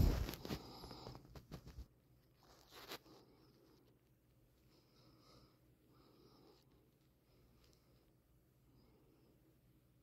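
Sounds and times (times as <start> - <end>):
soft hiss: 0.0 - 10.0
steady low hum: 0.0 - 10.0.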